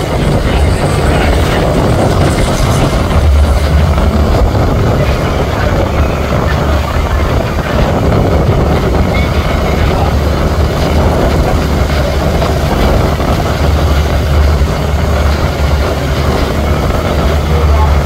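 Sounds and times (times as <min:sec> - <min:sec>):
boat engine droning: 0:00.0 - 0:18.0
rushing noise: 0:00.0 - 0:18.0.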